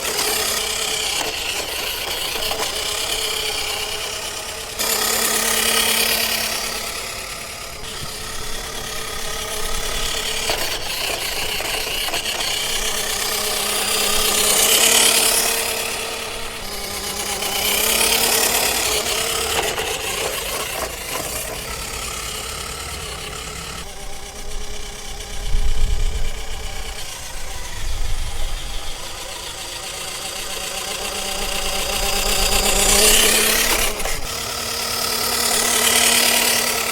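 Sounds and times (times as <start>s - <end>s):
electric motor and gears whining: 0.0s - 36.9s.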